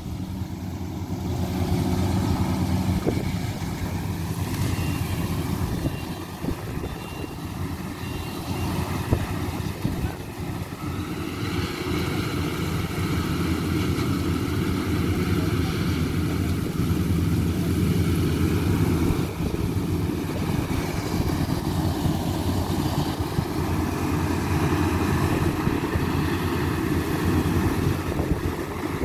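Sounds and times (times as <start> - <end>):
combine harvester engine drone: 0.0 - 29.0.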